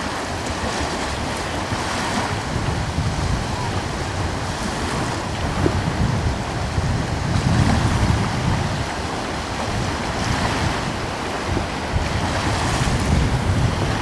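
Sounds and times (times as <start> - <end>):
ocean waves washing: 0.0 - 14.0
wind buffeting microphone: 0.0 - 14.0.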